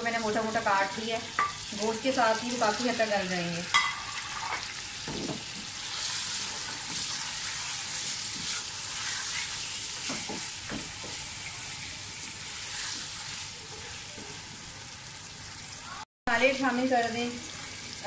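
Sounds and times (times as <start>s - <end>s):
meat sizzling in hot oil: 0.0s - 18.0s.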